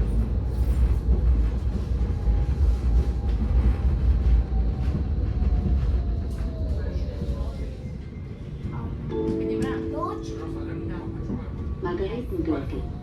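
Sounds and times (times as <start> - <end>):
tram rumbling: 0.0 - 13.0.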